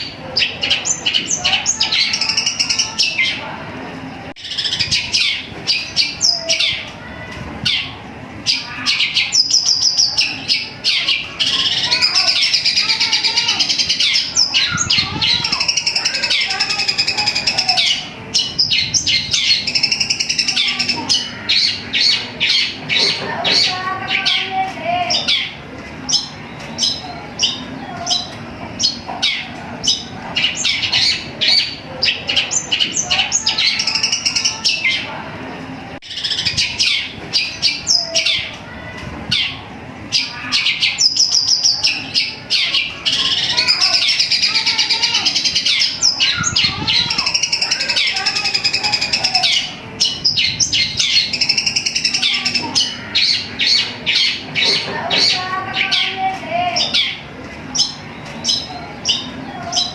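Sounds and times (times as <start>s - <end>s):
bird singing chattering trills: 7.7s - 38.6s, 39.3s - 59.9s.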